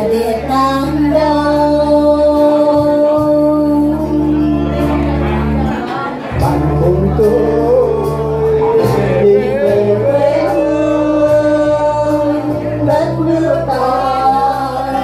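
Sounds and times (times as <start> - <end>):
electronic keyboard accompaniment: 0.0 - 15.0
men and women singing into microphones: 0.0 - 15.0.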